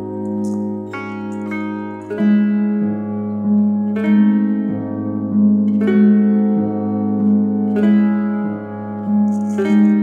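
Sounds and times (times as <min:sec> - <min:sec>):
plucked string notes: 0:00.0 - 0:10.0.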